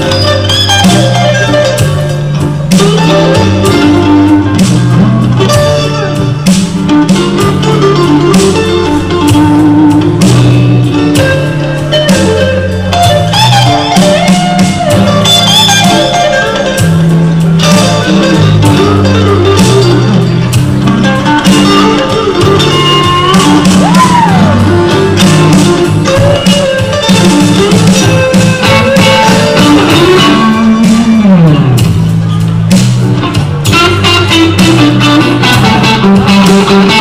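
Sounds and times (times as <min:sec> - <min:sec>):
blues-rock band playing: 0:00.0 - 0:37.0
electric guitar lead: 0:00.0 - 0:37.0
guitar string bend: 0:00.0 - 0:37.0.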